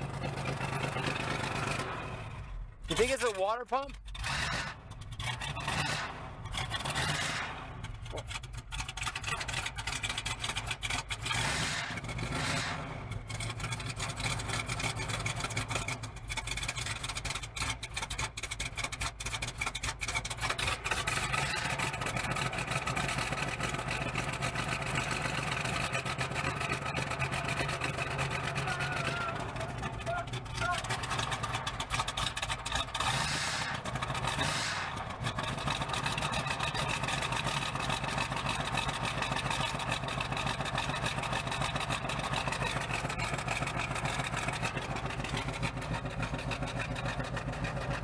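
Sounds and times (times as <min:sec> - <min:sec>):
motorhome engine running: 0:00.0 - 0:48.0.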